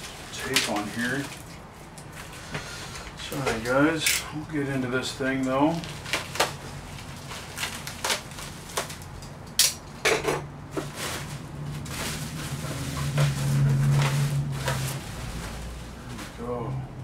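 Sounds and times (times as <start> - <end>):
plastic and bubble wrap rustling: 0.0 - 3.9, 5.3 - 9.2, 10.7 - 17.0.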